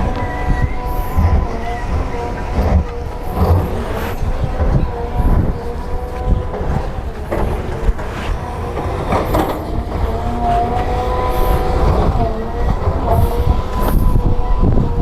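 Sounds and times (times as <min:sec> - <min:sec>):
diesel engine under load: 0:00.0 - 0:15.0
steel tracks clanking: 0:00.0 - 0:15.0
thin whining tone: 0:00.0 - 0:15.0.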